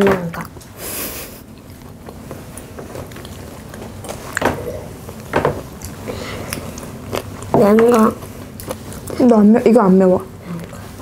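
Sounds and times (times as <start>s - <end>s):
chewing and eating noises: 0.2s - 0.8s, 1.4s - 11.0s.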